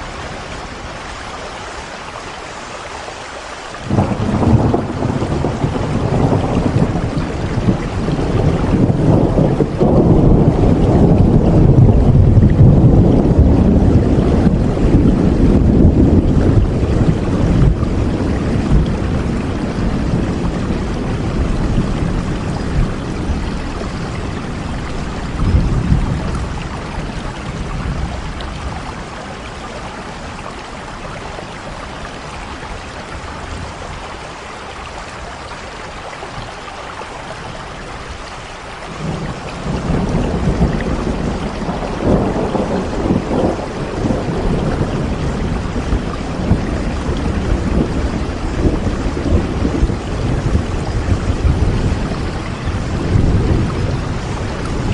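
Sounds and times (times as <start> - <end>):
steady rainfall: 0.0 - 54.9
thunder rumbling: 3.8 - 34.4, 37.2 - 54.9.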